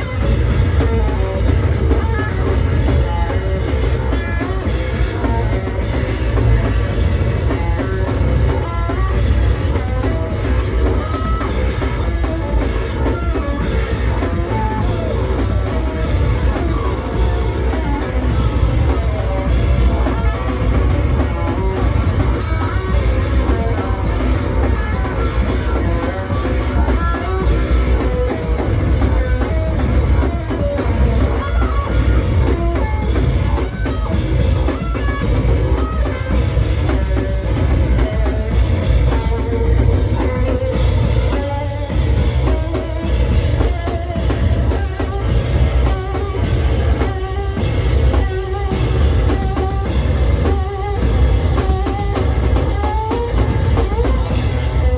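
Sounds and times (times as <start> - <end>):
bass guitar through effects: 0.0 - 54.9
drum kit playing: 0.0 - 54.9.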